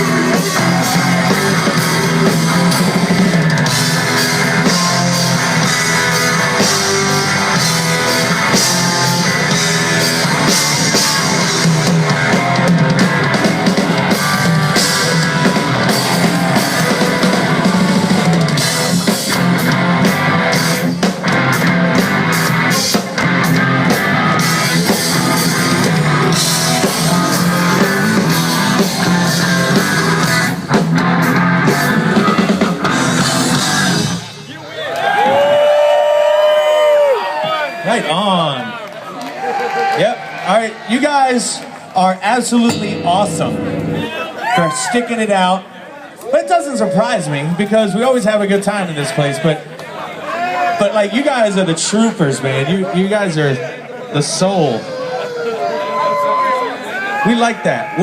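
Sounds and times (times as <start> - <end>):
rock band playing live: 0.0 - 50.1, 50.7 - 58.0.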